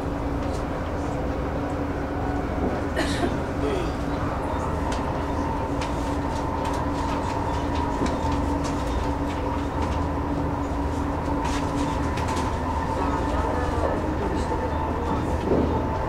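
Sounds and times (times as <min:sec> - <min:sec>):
low train rumble: 0:00.0 - 0:16.0.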